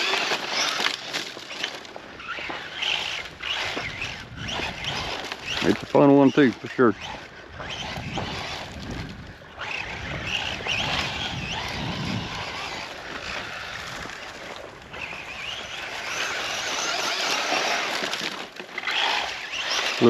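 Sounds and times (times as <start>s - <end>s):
electric motor whining: 0.0s - 20.0s
tyres rushing on sand: 0.0s - 20.0s.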